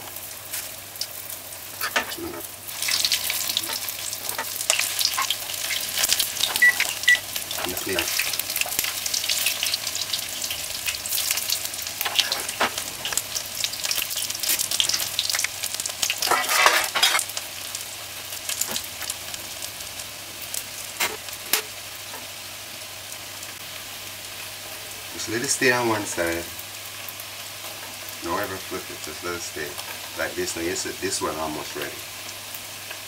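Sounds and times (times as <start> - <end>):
fritters sizzling in hot oil: 0.0 - 33.0.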